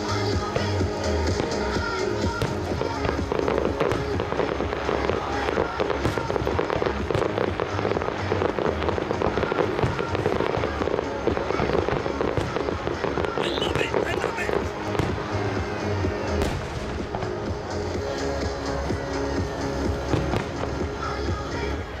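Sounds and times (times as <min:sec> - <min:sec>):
fireworks bangs and crackles: 0:00.0 - 0:22.0
music playing: 0:00.0 - 0:22.0.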